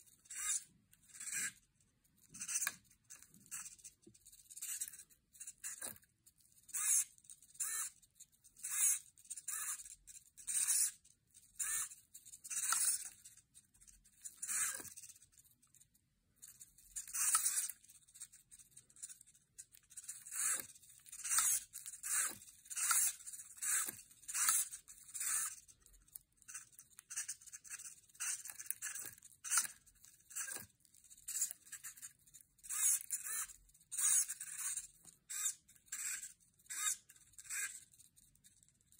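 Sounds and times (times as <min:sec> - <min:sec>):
small servos whirring: 0:00.0 - 0:38.9.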